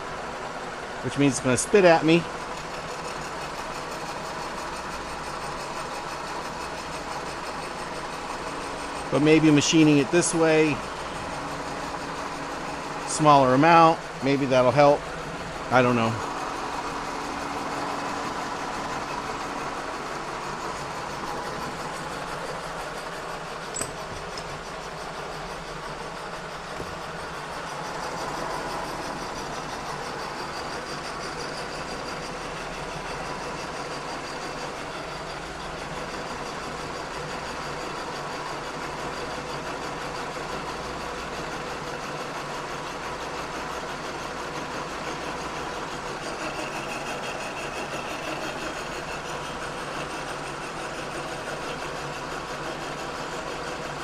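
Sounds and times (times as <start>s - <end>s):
milling machine cutting metal: 0.6s - 54.0s.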